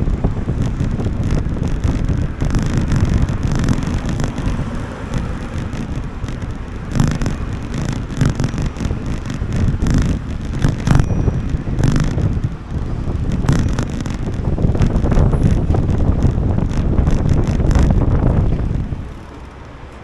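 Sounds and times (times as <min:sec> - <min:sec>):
road traffic: 0:00.0 - 0:20.0
wind buffeting microphone: 0:00.0 - 0:20.0.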